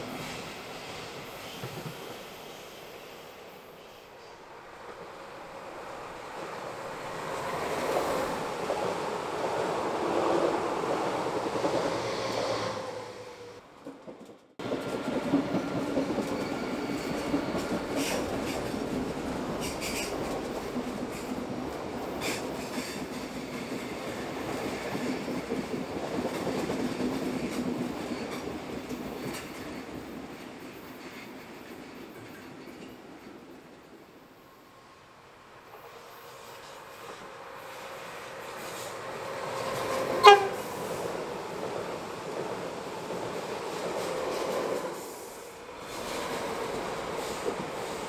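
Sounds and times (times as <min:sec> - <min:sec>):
passenger train passing: 0:00.0 - 0:48.0.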